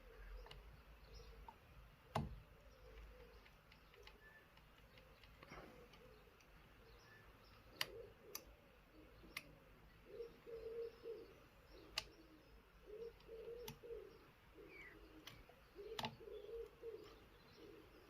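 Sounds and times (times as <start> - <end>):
bird cooing: 0.0 - 1.5, 2.6 - 4.4, 5.0 - 18.0.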